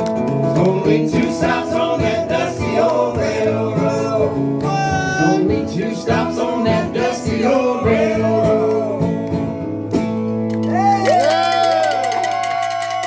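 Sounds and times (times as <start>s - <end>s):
country band playing: 0.0s - 12.0s
strummed guitars: 0.0s - 13.0s.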